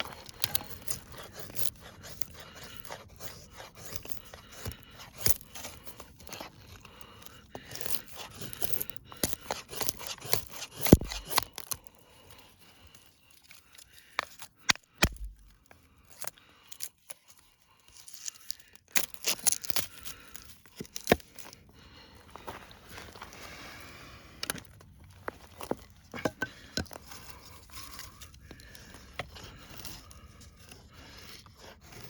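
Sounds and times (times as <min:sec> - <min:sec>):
knife cutting and cracking wood: 0:00.0 - 0:22.0, 0:25.5 - 0:32.0.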